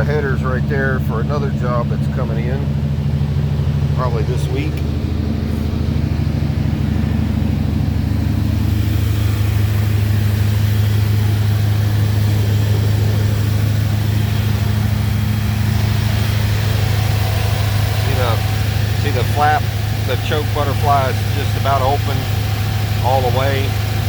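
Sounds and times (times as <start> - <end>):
pickup engine fast idle: 0.0 - 24.0.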